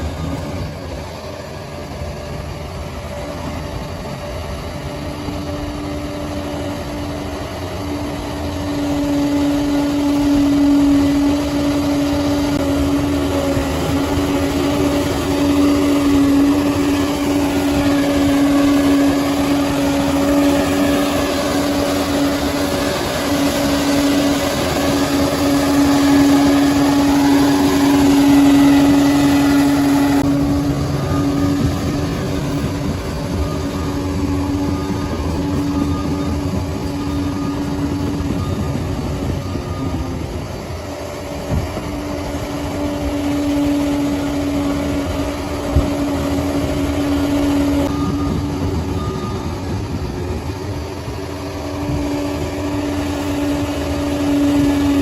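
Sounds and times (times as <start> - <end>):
bulldozer diesel engine droning: 0.0 - 55.0
wavering high whine: 0.0 - 55.0.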